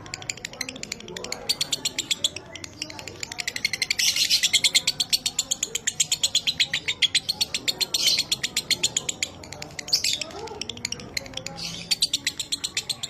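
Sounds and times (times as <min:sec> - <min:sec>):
lovebird chattering: 0:00.0 - 0:13.0.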